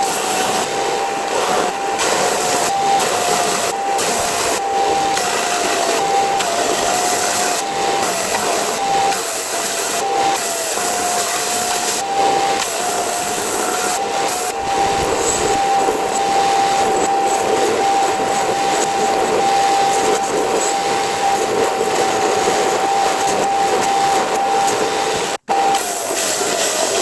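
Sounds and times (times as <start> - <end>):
belt sander grinding metal: 0.0 - 27.0.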